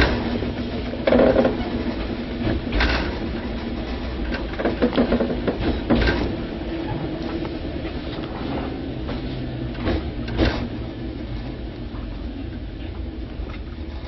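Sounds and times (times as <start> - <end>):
train car rumble: 0.0 - 14.0.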